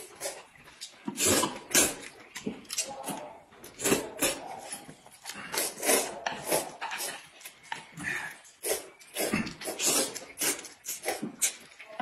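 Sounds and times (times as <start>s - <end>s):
people slurping noodles: 0.0s - 11.8s.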